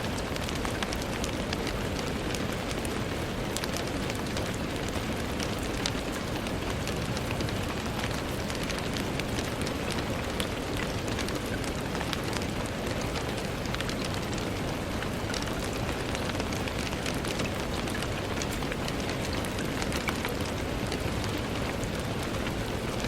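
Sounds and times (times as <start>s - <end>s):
rain falling on a window: 0.0s - 23.0s.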